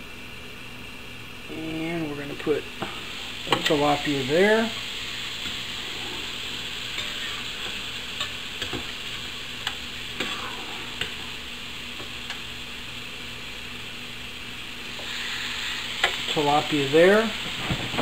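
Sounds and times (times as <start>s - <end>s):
food sizzling: 1.4s - 18.0s.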